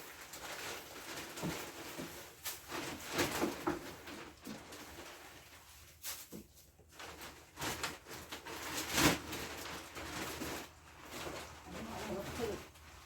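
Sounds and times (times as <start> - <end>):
rustling and handling noises: 0.0 - 13.0.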